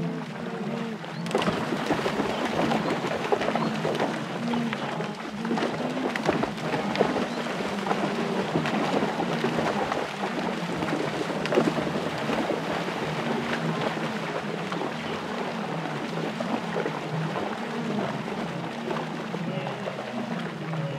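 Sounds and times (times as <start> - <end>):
animals splashing through river: 0.0 - 20.9.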